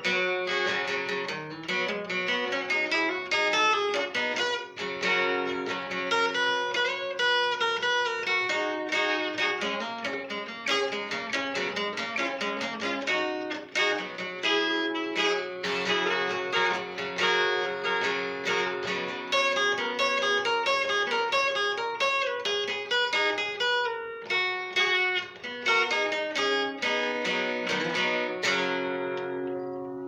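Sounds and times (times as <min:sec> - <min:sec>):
solo acoustic blues guitar: 0:00.0 - 0:30.0.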